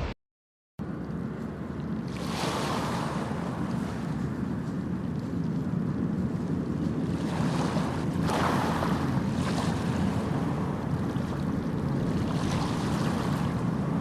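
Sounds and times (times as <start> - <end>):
wind rumble on microphone: 0.8 - 14.0
small waves washing on shore: 1.8 - 14.0.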